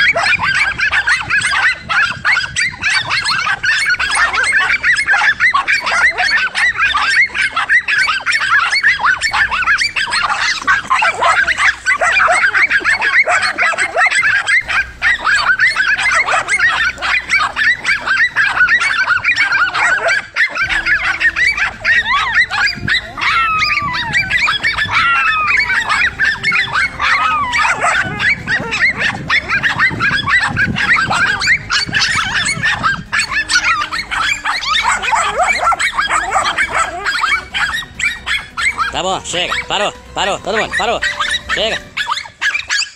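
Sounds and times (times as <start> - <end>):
dog wavering whines: 0.0 - 42.9
dogs barking and yelping: 0.0 - 42.9.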